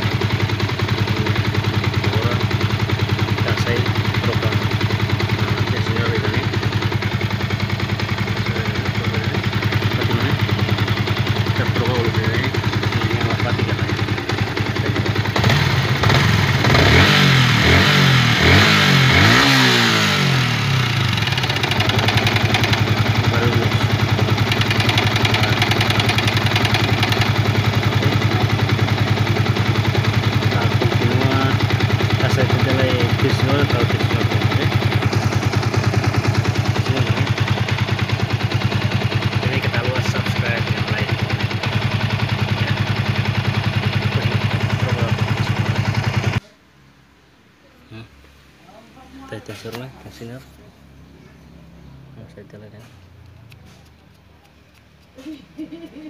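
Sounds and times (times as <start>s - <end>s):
motorcycle engine idling and revving: 0.0s - 46.9s, 49.1s - 56.0s.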